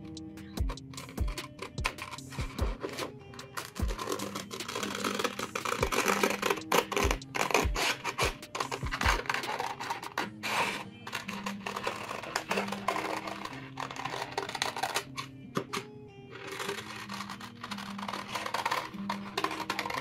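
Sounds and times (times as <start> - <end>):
background music: 0.0 - 20.0
scissors snipping paper: 0.7 - 15.8, 16.4 - 20.0.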